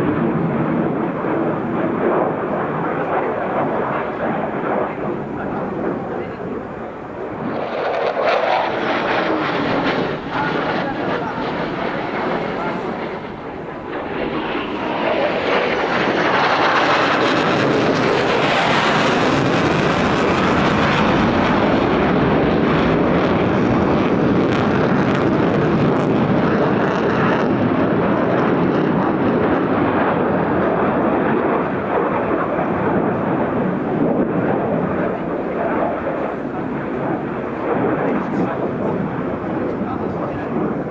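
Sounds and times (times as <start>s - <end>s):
fighter jet passing low: 0.0s - 40.9s.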